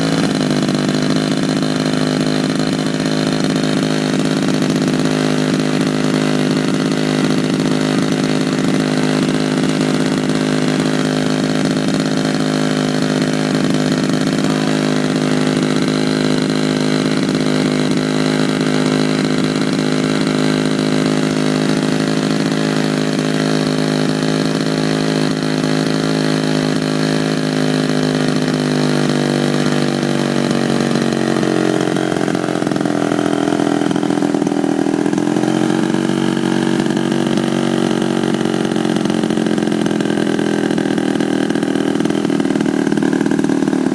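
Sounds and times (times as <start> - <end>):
model airplane engine running: 0.0 - 43.9.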